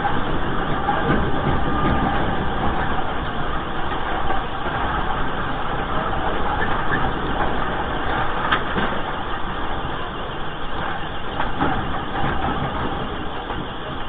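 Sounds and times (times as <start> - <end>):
earthquake rumbling: 0.0 - 14.0.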